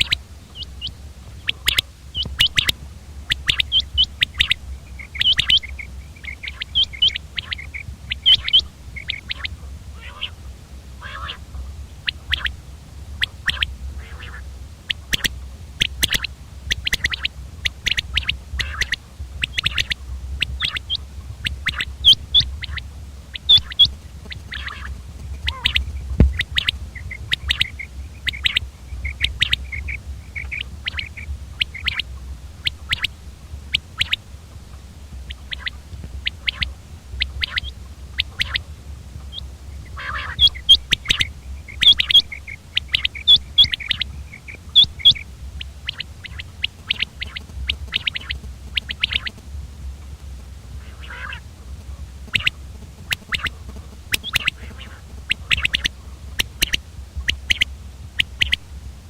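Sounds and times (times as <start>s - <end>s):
quail calling: 0.0s - 49.6s, 50.7s - 58.7s
steady low hum: 0.0s - 59.0s.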